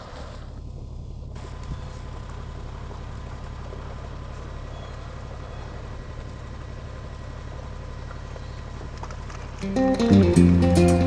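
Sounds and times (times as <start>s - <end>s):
truck engine running at low revs: 0.0s - 11.0s.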